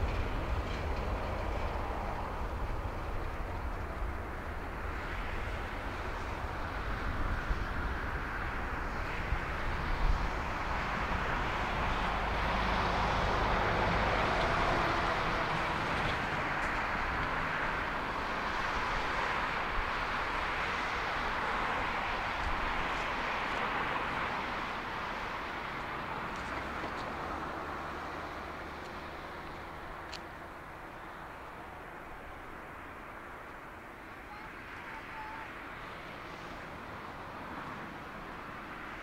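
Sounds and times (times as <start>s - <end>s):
jet engines at takeoff thrust: 0.0s - 39.0s.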